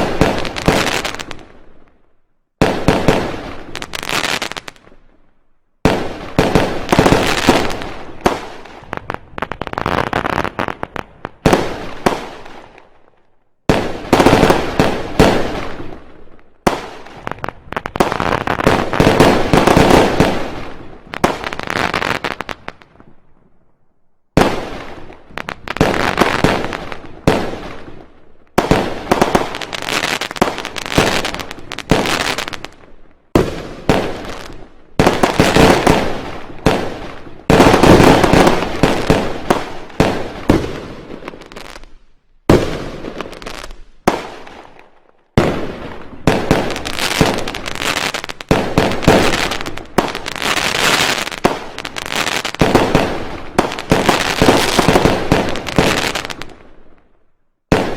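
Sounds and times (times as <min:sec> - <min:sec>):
fireworks bangs and cracks: 0:00.0 - 0:02.0, 0:02.6 - 0:05.1, 0:05.8 - 0:23.2, 0:24.3 - 0:57.0, 0:57.6 - 0:57.9.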